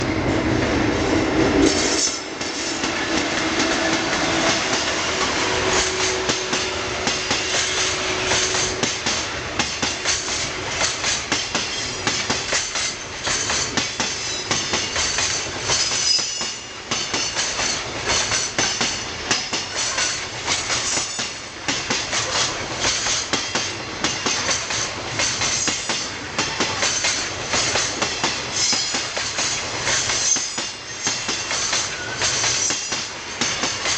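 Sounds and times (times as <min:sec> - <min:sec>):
train wheels clattering on rails: 0:00.0 - 0:33.9.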